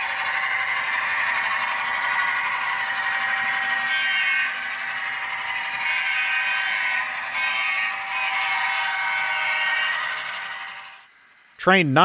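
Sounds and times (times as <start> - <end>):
model train wheels rattling: 0.0 - 11.1.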